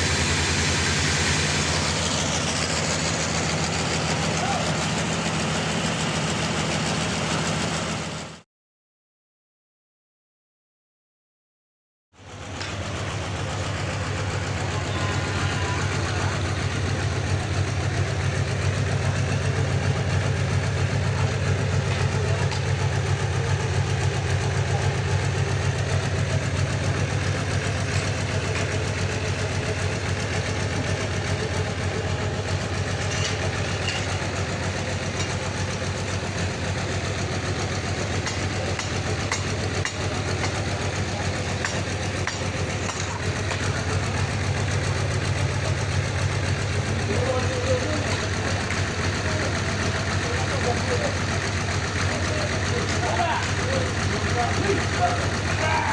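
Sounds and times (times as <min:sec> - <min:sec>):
sawmill engine running: 0:00.0 - 0:08.4, 0:12.2 - 0:55.9.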